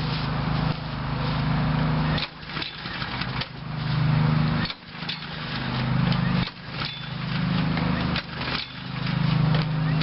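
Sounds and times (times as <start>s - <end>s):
lawnmower engine turning over: 0.0s - 10.0s.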